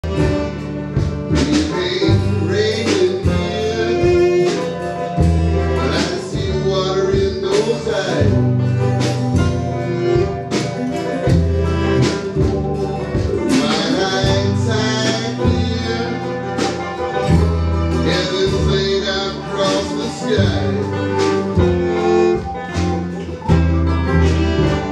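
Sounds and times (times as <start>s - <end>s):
small band playing live: 0.0s - 24.9s.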